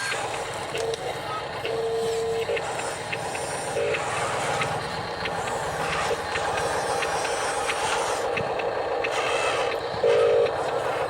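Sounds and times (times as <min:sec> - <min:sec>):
toy loader motor running: 0:00.0 - 0:11.0.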